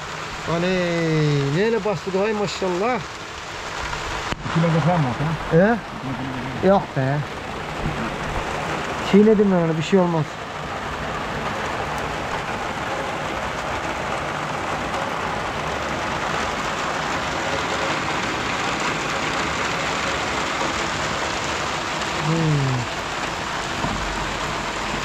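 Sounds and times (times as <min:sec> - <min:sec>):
heavy rain splashing: 0:00.0 - 0:25.0.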